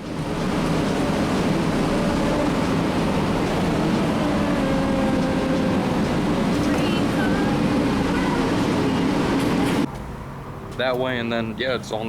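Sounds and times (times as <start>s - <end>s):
vehicle running rumble: 0.0s - 10.0s.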